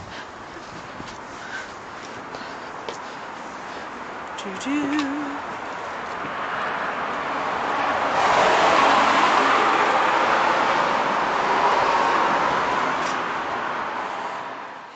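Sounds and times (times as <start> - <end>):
passing vehicle: 0.0 - 14.9.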